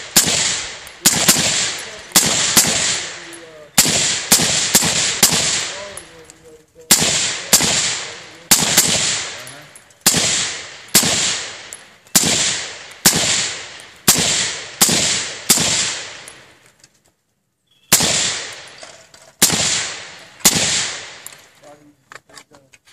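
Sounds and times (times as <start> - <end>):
suppressed rifle shots: 0.0 - 6.0, 6.9 - 16.4, 17.9 - 18.8, 19.4 - 21.4.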